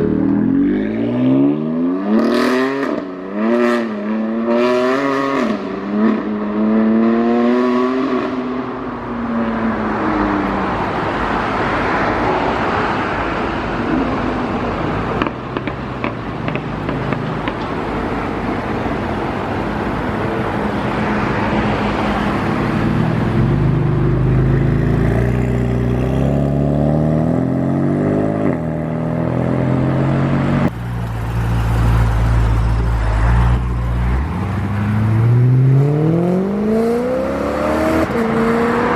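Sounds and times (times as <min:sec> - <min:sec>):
exhaust and road noise: 0:00.0 - 0:38.9
performance car engines: 0:00.0 - 0:38.9.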